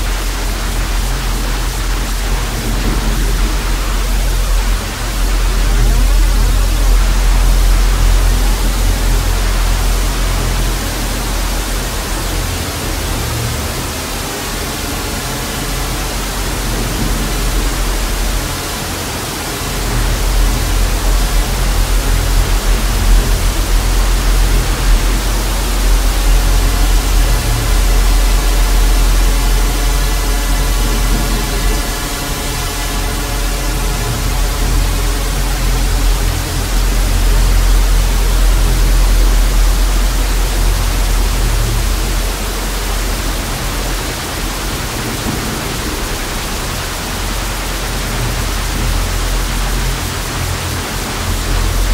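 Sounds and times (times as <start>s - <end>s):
deep bass drone: 0.0s - 51.9s
tv static hiss: 0.0s - 51.9s.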